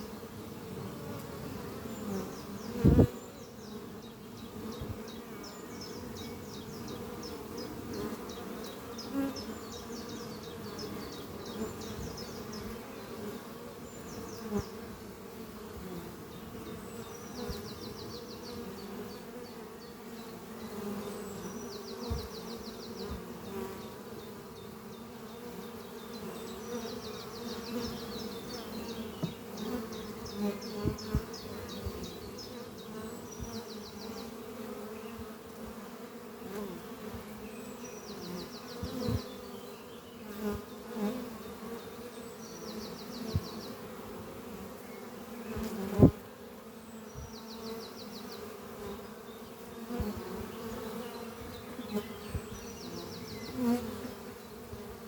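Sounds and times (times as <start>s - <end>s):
bee buzzing close by: 0.0s - 55.0s
honeybees buzzing: 0.0s - 55.0s.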